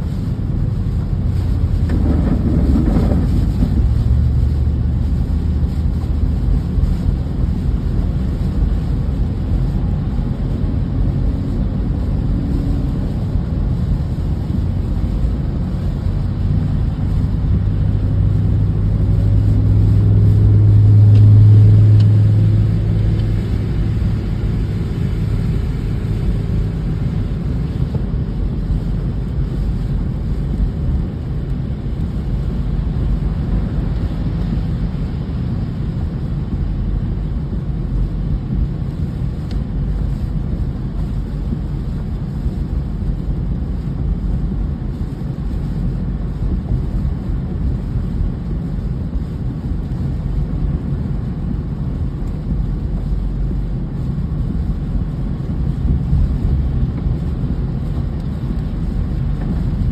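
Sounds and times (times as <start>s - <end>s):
motor vehicle engine rumble: 0.0s - 59.9s
droning hum: 1.4s - 59.9s.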